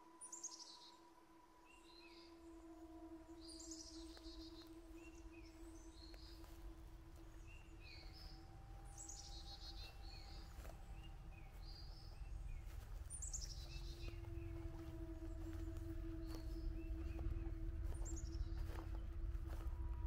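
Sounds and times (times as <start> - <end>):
birds singing: 1.6 - 20.0
steady low hum: 2.3 - 20.0
low rumble: 2.4 - 20.0.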